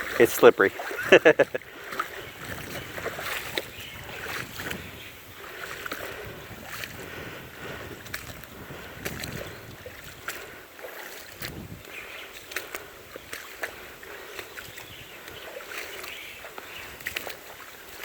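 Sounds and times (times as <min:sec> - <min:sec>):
water splashing in stream: 0:00.0 - 0:18.0.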